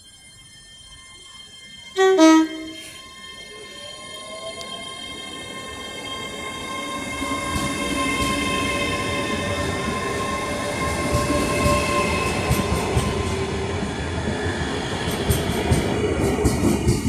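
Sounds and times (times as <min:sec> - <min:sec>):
electric train rumble: 0:00.1 - 0:17.0.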